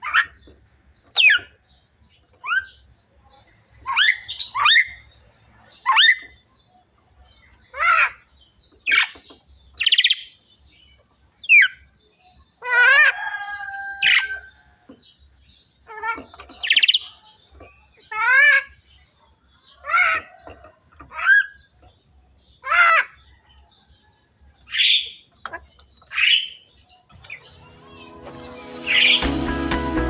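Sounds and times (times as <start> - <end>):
myna bird calling: 0.0 - 15.0, 15.8 - 23.6, 24.6 - 29.4.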